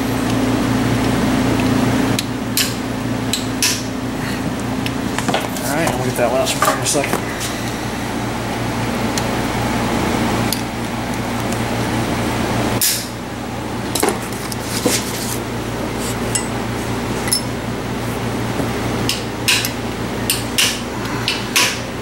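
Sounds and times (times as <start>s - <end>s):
shop fan humming: 0.0s - 22.0s.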